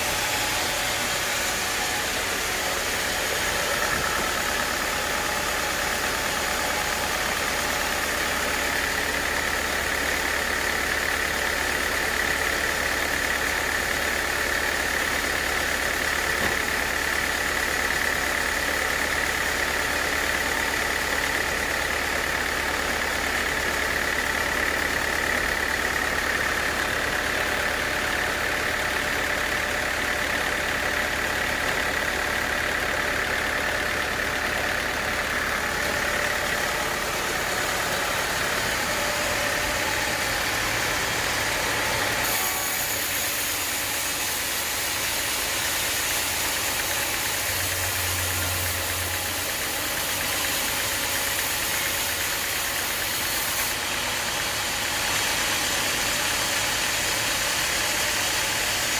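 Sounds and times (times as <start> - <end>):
engine hum: 0.0 - 57.7
saw blade whine: 0.0 - 58.9.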